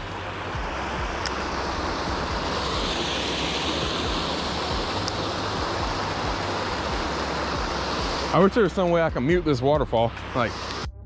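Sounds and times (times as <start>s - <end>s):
waterfall spilling over rocks: 0.0s - 9.1s.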